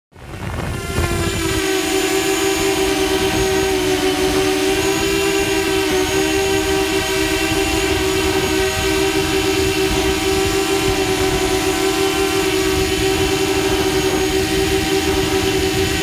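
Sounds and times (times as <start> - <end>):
drone propellers humming: 0.1 - 16.0.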